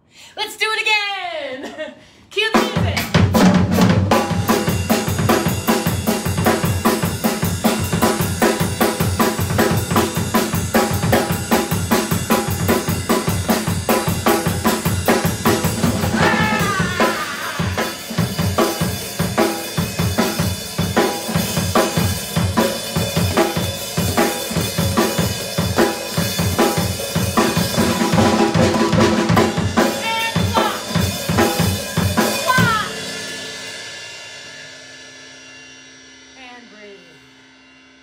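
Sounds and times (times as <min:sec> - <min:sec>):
up-tempo music with drum beat: 0:02.5 - 0:34.9.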